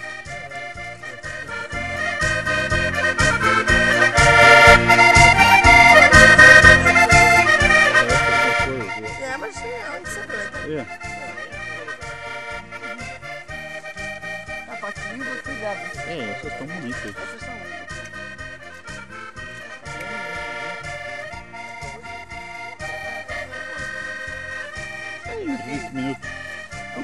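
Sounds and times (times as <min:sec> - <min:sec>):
folk music on button accordion: 0:00.0 - 0:27.0.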